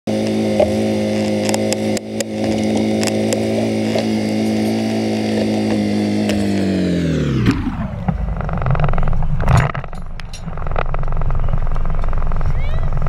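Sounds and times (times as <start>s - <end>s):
crane machinery running: 0.1s - 13.0s.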